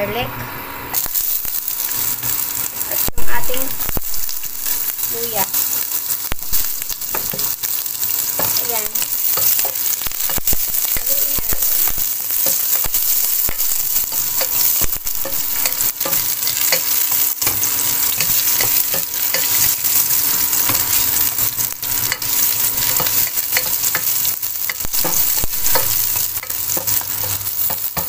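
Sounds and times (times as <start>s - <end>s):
onion sizzling in hot oil: 0.0s - 28.0s.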